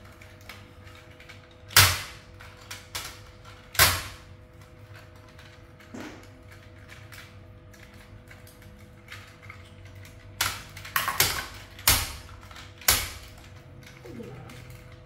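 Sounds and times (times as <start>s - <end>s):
sharp plastic clicks and clatters: 0.0s - 15.0s.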